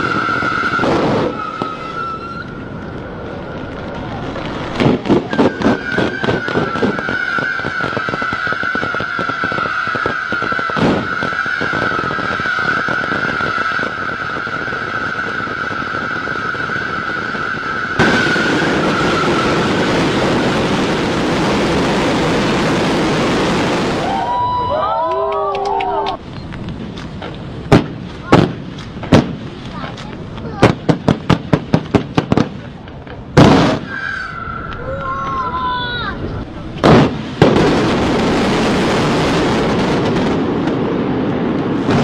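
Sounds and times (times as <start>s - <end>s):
firework bangs: 0.0s - 42.0s
firework cascade rushing hiss: 0.0s - 42.0s.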